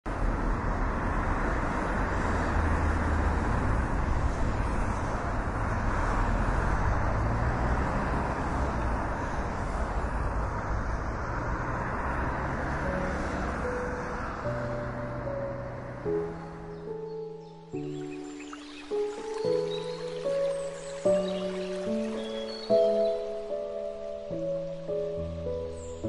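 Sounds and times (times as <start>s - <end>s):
road traffic hum: 0.1s - 26.0s.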